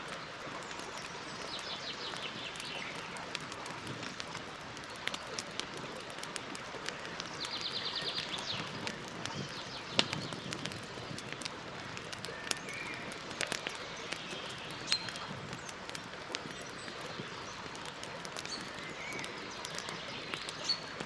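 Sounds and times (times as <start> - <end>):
campfire crackling: 0.0 - 21.0
fire sharp pops: 2.1 - 21.0.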